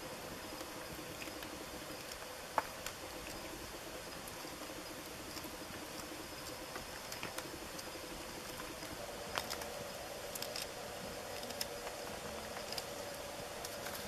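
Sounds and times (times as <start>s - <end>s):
night insects droning: 0.0s - 14.0s.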